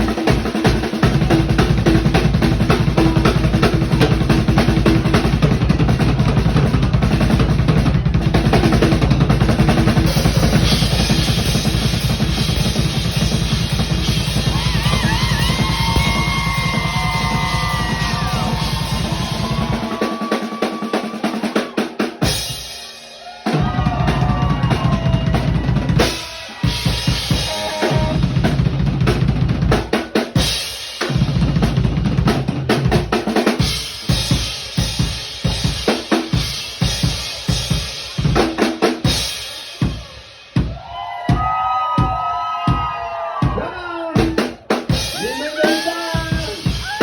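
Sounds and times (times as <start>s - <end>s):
fast bass drum run: 0.0s - 22.6s, 23.5s - 47.0s.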